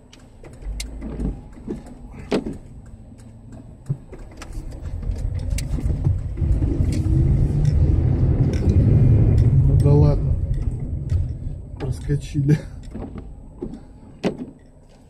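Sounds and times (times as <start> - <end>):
car engine rumble: 0.0 - 15.0
tyres on wet road: 0.0 - 15.0.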